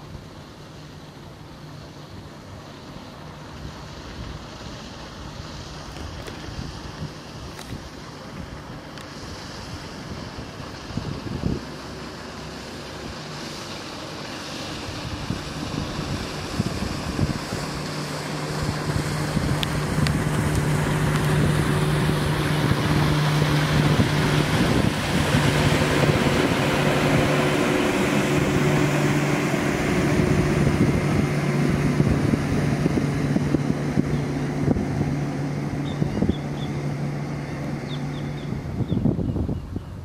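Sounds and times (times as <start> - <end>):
engine humming: 0.0 - 40.0
wind noise on microphone: 5.2 - 12.1, 14.7 - 40.0.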